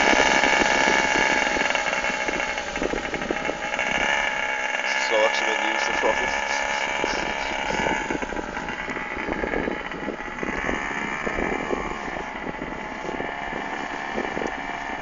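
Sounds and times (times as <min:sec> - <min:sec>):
quad bike engine whining: 0:00.0 - 0:15.0.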